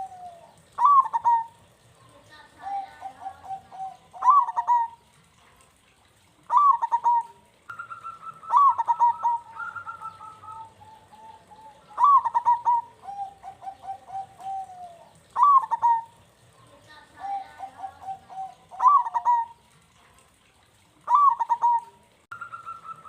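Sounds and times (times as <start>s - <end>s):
doves cooing: 0.0s - 5.5s, 6.4s - 23.0s.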